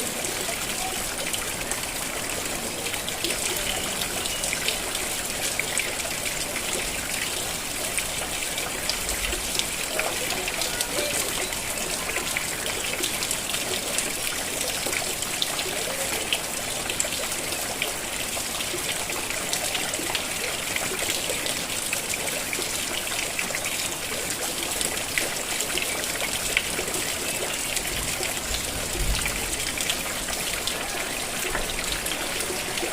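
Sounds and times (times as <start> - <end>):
rain falling: 0.0 - 32.9
water trickling: 0.0 - 32.9.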